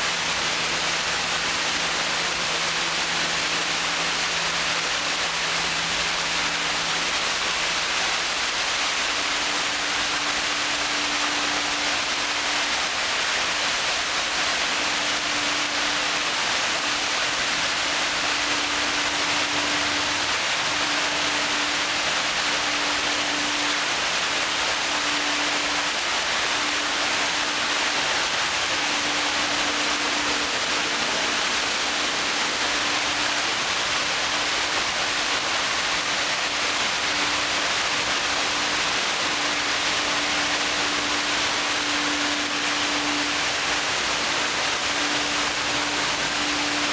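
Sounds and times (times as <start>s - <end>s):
steady hum: 0.0s - 46.9s
water rushing down cascade: 0.0s - 46.9s.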